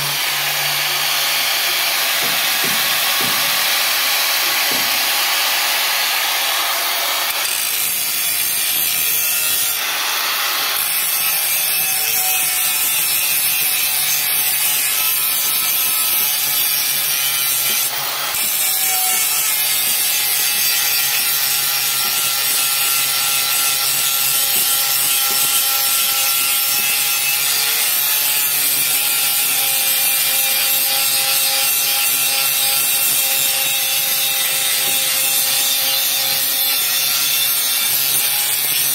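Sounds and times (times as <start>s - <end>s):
metal-on-metal grinding: 7.2s - 38.9s.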